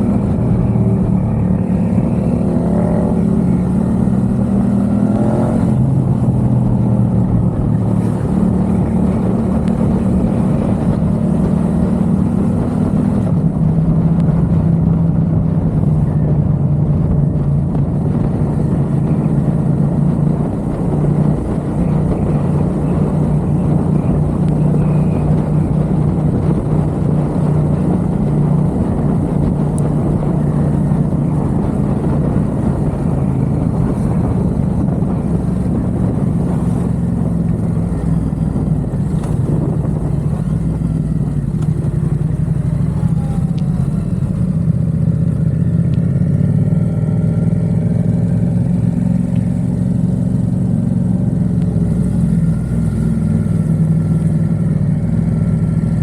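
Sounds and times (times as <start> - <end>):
motorcycle engine running: 0.0 - 56.0
rushing wind noise: 0.0 - 56.0.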